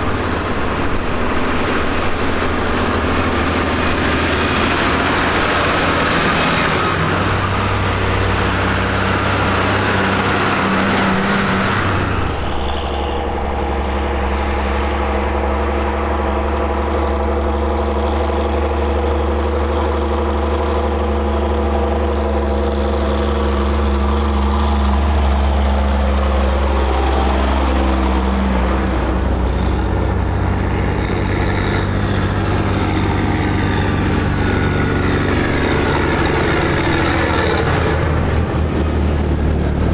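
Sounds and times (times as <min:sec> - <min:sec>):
steady engine hum: 0:00.0 - 0:39.9
tractors driving past: 0:00.0 - 0:39.9.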